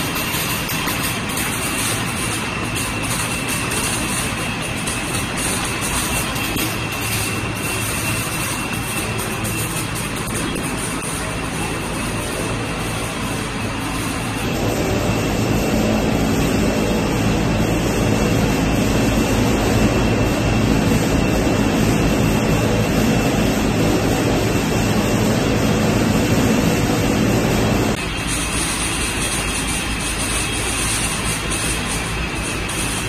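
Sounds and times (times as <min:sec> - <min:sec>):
sorting machinery running: 0:00.0 - 0:33.0.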